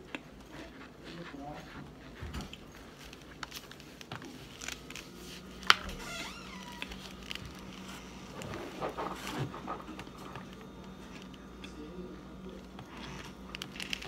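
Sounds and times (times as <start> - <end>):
chewing crunchy cornstarch: 0.0 - 14.0.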